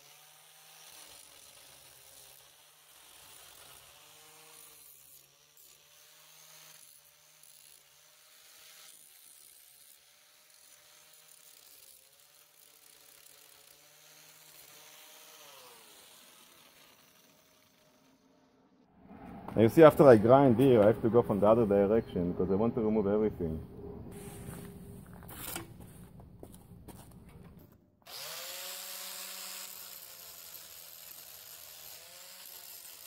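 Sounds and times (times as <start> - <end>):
angle grinder whining on metal: 0.0 - 18.9, 19.5 - 33.0.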